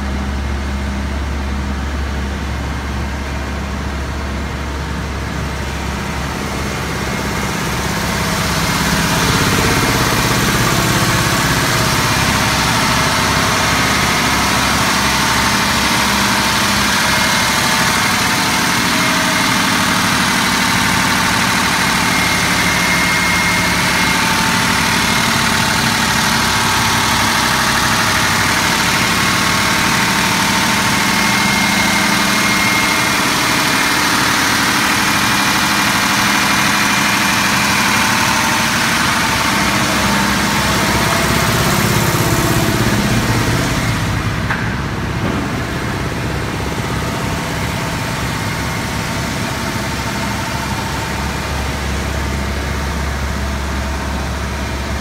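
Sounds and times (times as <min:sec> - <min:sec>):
diesel generator running: 0:00.0 - 0:55.0.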